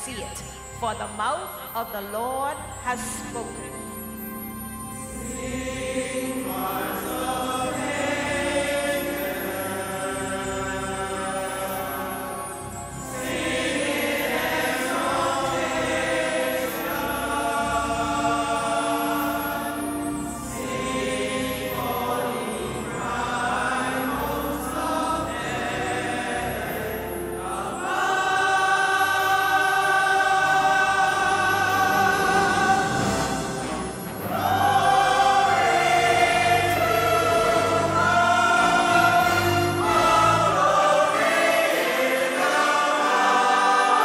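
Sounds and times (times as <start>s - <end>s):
choir singing sustained chords: 0.0s - 44.0s.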